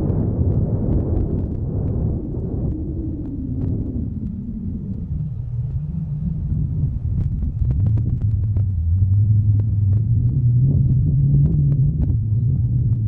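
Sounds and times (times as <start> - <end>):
truck engine running at low revs: 0.0 - 13.0.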